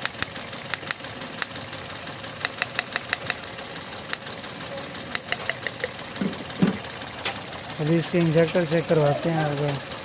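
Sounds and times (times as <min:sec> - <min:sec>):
car engine idling unevenly: 0:00.0 - 0:10.0.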